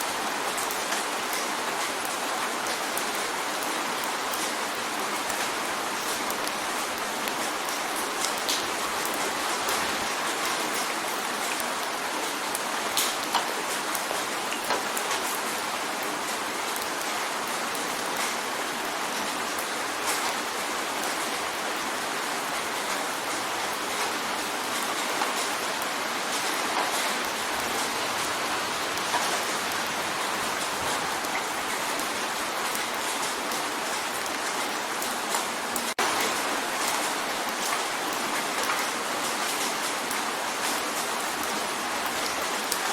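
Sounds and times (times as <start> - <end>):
rain drumming on a window: 0.0 - 42.9.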